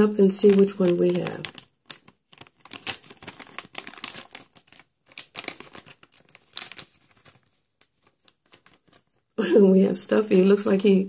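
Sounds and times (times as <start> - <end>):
plastic bag crinkling: 0.2 - 9.4.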